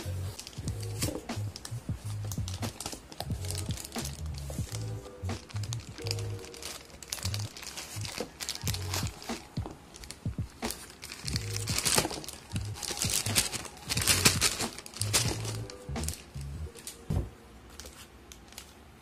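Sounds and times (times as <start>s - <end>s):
background music: 0.0s - 17.7s
cardboard packing rustling: 0.0s - 19.0s
plastic wrapping crinkling: 0.0s - 19.0s.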